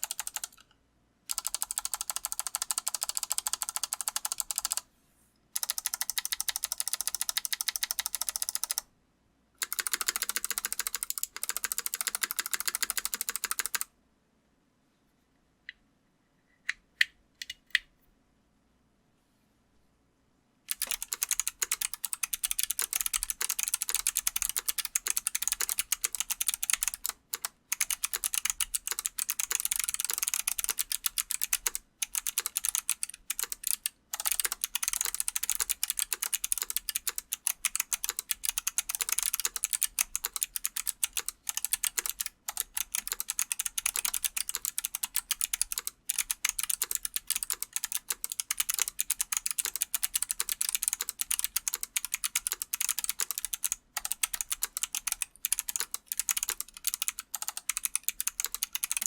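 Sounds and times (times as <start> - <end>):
fast typing on mechanical keyboard: 0.0 - 0.6, 1.3 - 4.8, 5.6 - 8.8, 9.6 - 13.9, 20.7 - 59.0.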